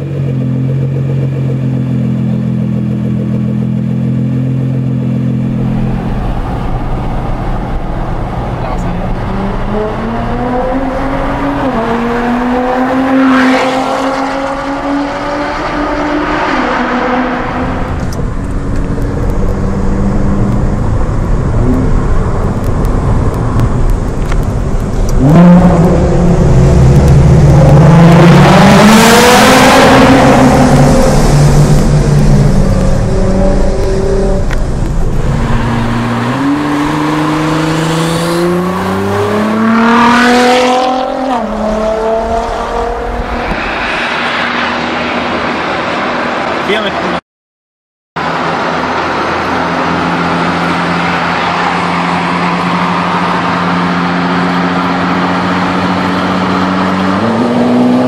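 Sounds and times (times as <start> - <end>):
car engines accelerating: 0.0 - 47.2, 48.2 - 58.0
engine echoing in tunnel: 0.0 - 47.2
car passing with engine revving: 2.4 - 47.2, 48.2 - 58.0.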